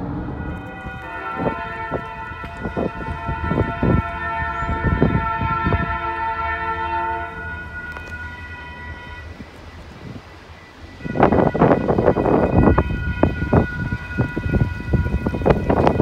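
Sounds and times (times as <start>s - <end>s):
locomotive air horn: 0.0s - 16.0s.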